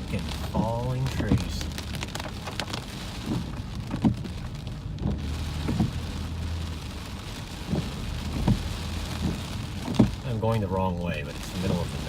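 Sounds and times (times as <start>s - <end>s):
rain striking a car: 0.0s - 12.0s
steady low rumble: 0.0s - 12.0s.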